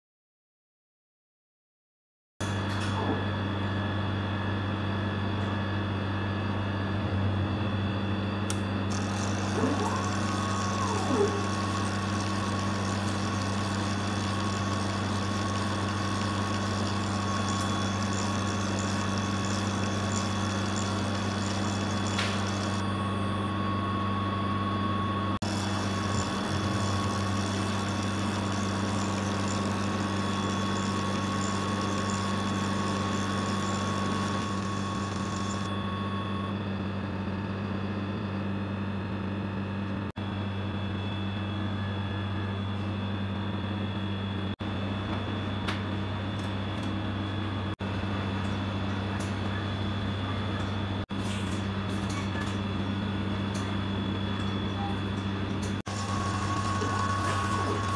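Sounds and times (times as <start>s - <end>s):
machine hum: 2.6s - 57.9s.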